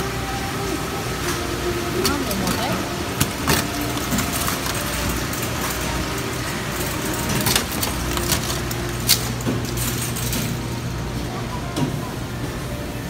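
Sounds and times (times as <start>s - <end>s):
busy shop hum: 0.0s - 13.0s.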